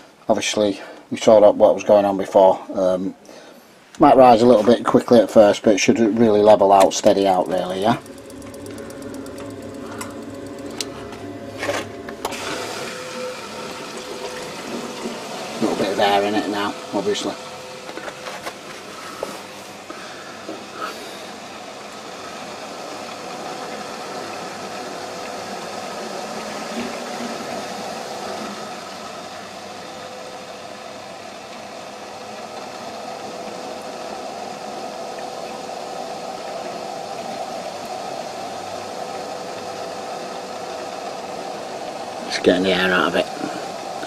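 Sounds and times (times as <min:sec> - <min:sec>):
gas boiler humming: 0:00.0 - 0:44.0
rough noise from boiler: 0:06.2 - 0:44.0.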